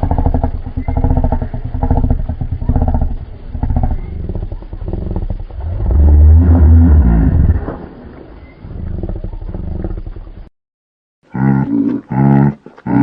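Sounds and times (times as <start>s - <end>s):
deep rough growling rumble: 0.0s - 10.5s.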